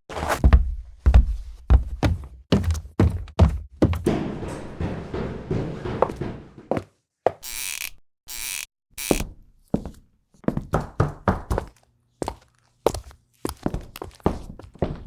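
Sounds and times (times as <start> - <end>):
footsteps: 0.1 - 7.7, 9.0 - 15.0.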